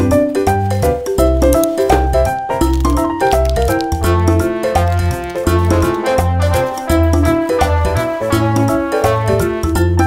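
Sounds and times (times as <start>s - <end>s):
upbeat music with bouncing bass: 0.0s - 10.0s.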